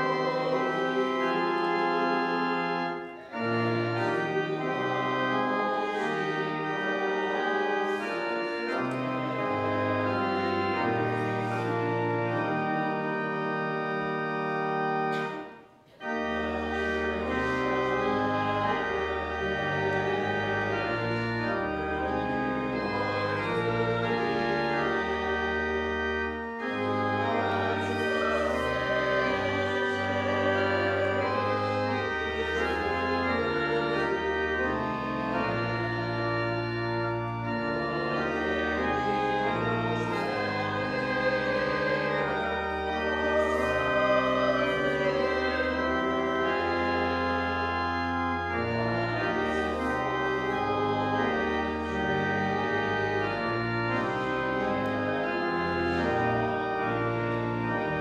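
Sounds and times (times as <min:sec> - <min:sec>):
church organ playing a hymn: 0:00.0 - 0:58.0.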